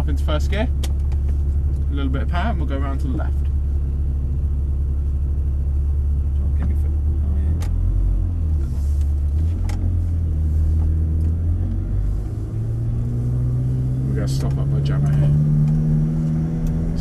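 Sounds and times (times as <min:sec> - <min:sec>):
car engine rumbling at low revs: 0:00.0 - 0:17.0.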